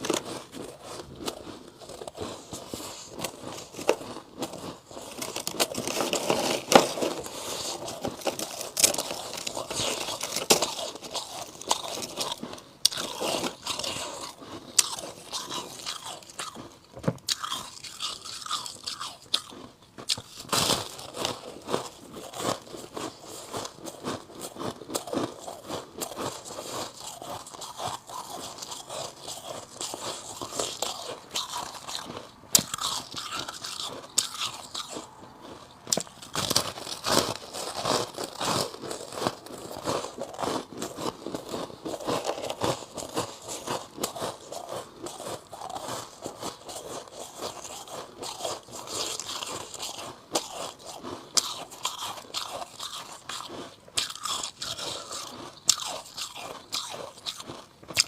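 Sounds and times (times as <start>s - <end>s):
person crunching ice: 0.0s - 58.0s.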